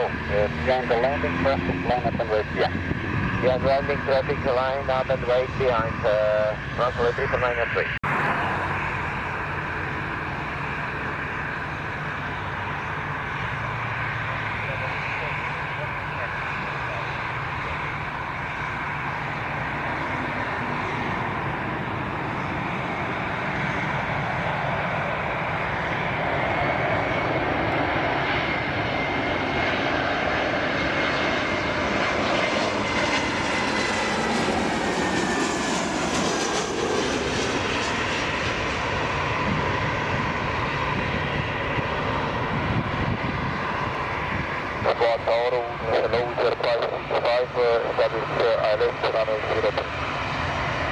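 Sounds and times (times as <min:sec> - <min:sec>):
airliner engines passing: 0:00.0 - 0:50.9
high engine whine: 0:00.0 - 0:50.9.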